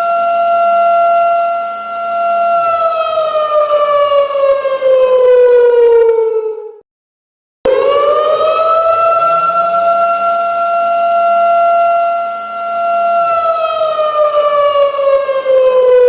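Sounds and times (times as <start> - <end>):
siren wailing: 0.0 - 6.8, 7.7 - 16.0.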